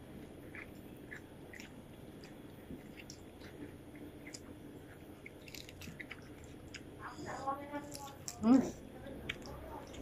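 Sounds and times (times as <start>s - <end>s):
faint chewing: 0.0s - 10.0s.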